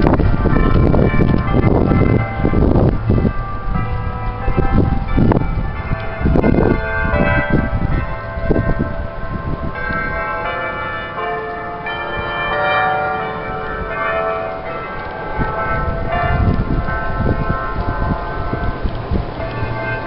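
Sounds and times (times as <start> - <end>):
church bells ringing: 0.0 - 20.0
low rumbles: 0.0 - 20.0.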